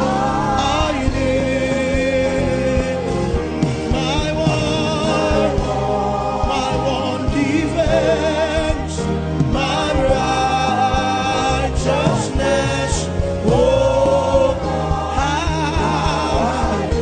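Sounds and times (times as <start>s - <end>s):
instrumental accompaniment: 0.0s - 17.0s
worship singing with vibrato: 0.0s - 17.0s.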